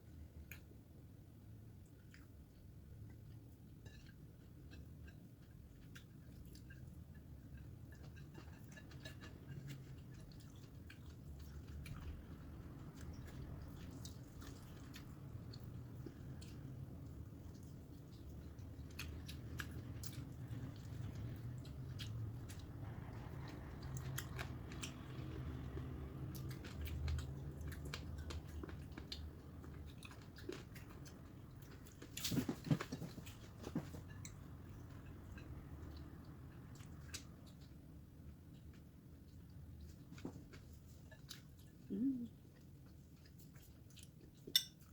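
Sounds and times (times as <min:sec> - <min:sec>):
low steady hum: 0:00.0 - 0:44.9
wet chewing and mouth smacks: 0:01.8 - 0:44.9.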